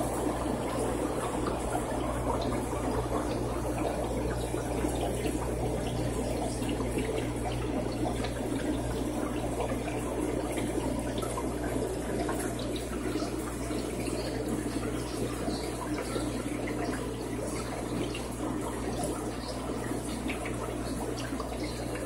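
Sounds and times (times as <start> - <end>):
aquarium water trickling and splashing: 0.0 - 22.0
low steady hum: 0.0 - 22.0.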